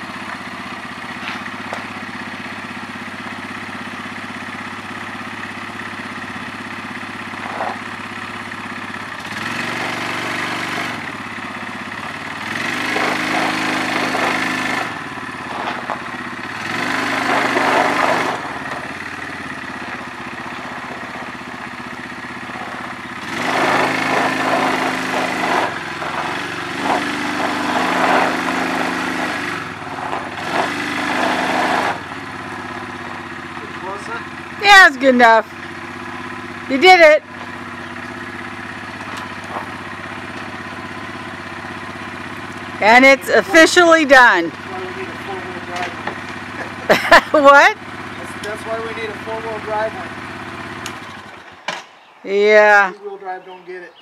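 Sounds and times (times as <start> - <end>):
atv engine idling and revving: 0.0 - 54.0.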